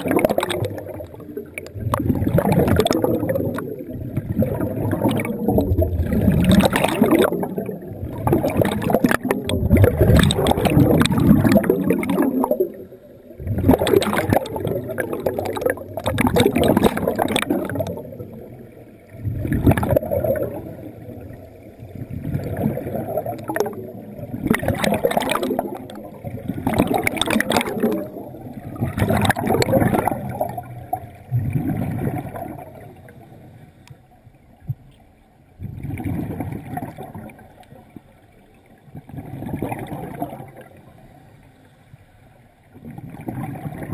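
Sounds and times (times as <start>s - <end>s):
exhaled bubbles rushing: 0.0s - 33.4s, 35.6s - 37.6s, 38.8s - 41.0s, 42.8s - 43.9s.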